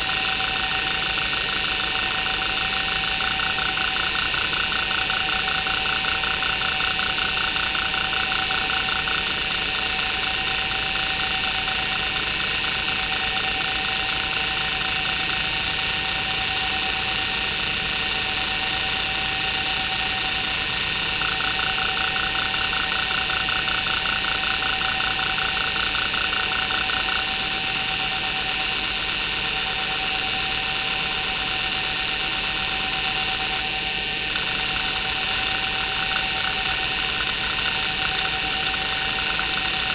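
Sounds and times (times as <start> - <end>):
hard drive spindle whine: 0.0 - 39.9.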